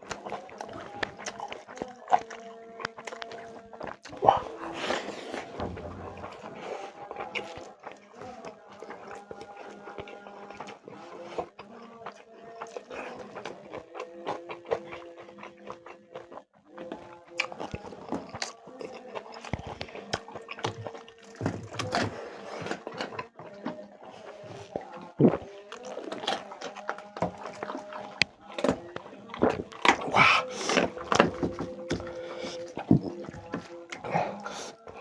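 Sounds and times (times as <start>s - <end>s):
chewing and biting food: 0.0s - 35.0s.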